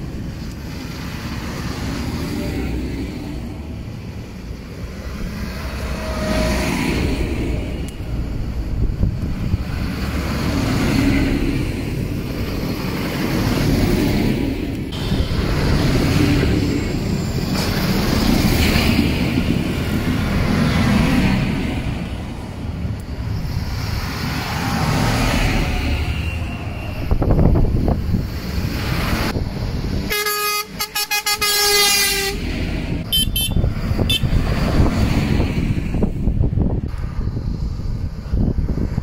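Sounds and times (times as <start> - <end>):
tractor engines passing: 0.0 - 39.0.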